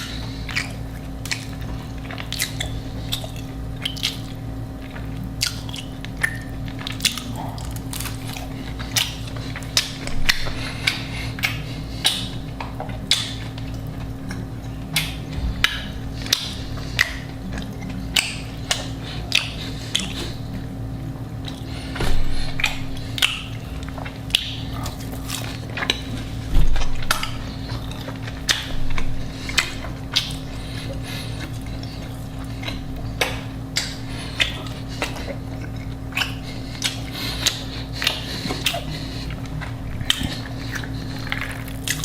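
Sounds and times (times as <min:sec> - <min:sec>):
crunchy chewing: 0:00.0 - 0:42.0
steady low hum: 0:00.0 - 0:42.0.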